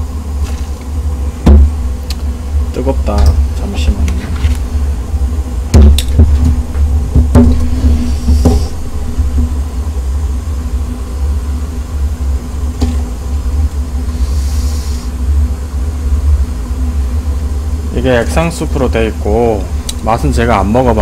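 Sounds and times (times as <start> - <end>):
gas burner rumble: 0.0 - 21.0.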